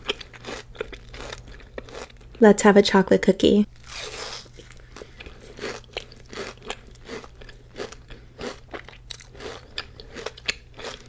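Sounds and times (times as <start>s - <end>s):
person chewing crunchy cookie: 0.0s - 2.4s, 3.7s - 11.0s.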